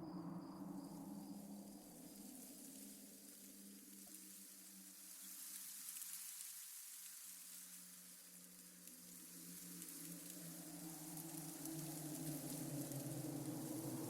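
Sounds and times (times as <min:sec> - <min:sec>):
steady high hiss: 0:00.4 - 0:14.0.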